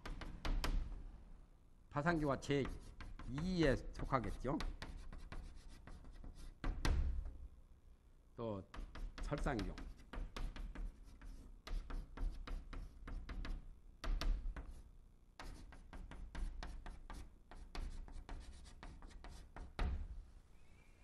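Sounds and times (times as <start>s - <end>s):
chalk tapping and scratching on blackboard: 0.0s - 0.9s, 2.0s - 7.4s, 8.6s - 20.1s.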